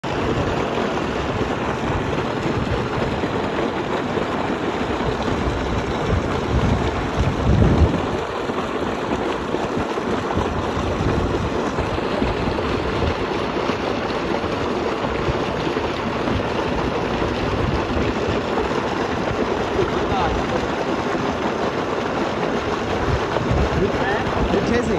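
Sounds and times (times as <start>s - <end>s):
water gushing into a tank: 0.0s - 24.9s.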